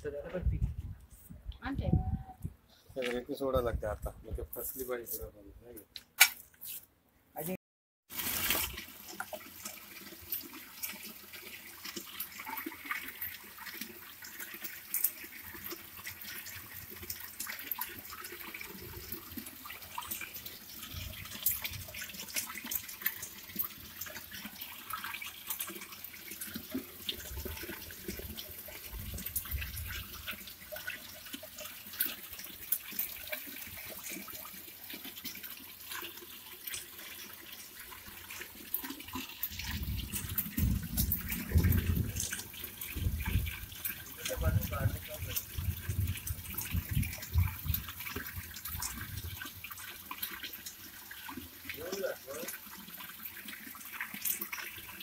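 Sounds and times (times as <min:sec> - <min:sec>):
water pouring into drum: 0:08.1 - 0:55.0.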